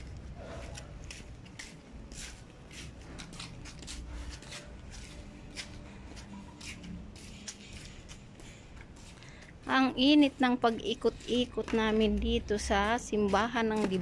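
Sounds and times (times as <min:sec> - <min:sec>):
sandal footsteps on concrete: 0:00.0 - 0:14.0.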